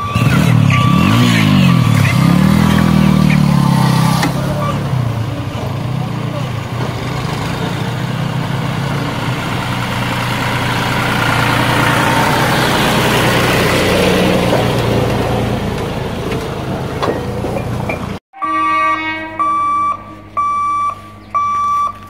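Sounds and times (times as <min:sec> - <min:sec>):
diesel tractor driving past: 0:00.0 - 0:18.2, 0:19.1 - 0:22.0.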